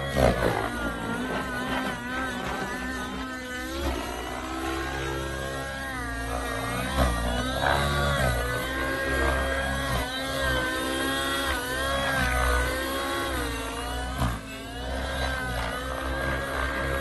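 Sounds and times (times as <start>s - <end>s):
model helicopter engine and rotor: 0.0s - 17.0s.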